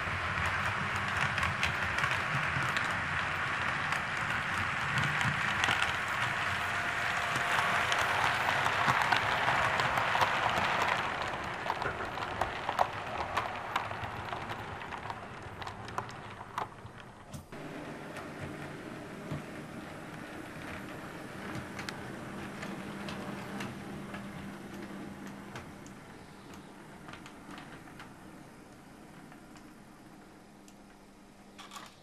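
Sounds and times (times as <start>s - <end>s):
model train rattling whir: 0.0s - 30.7s
coaches clicking on track: 0.0s - 31.0s.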